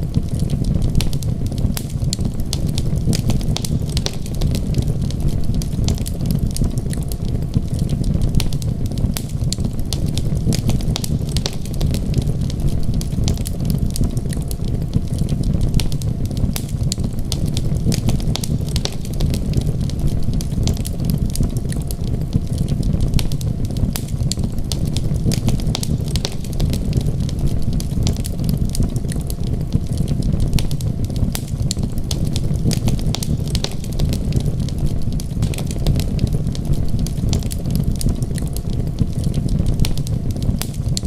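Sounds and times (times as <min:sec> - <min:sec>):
fire low rumble: 0:00.0 - 0:41.0
wood fire crackling and popping: 0:00.0 - 0:41.0.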